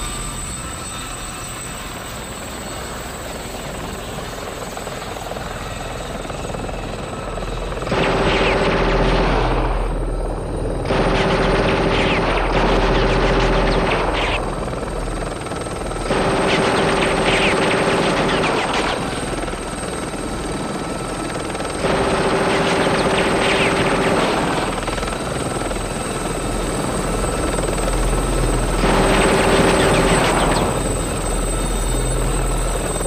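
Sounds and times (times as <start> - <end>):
helicopter running: 0.0 - 33.0.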